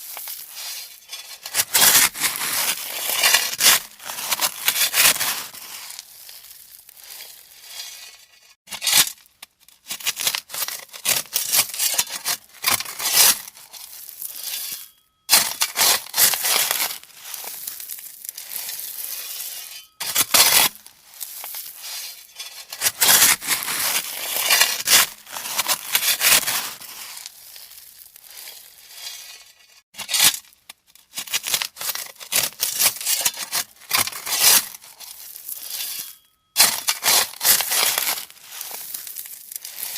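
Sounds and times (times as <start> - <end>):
shovel digging into gravel: 0.0 - 9.3, 9.9 - 39.9.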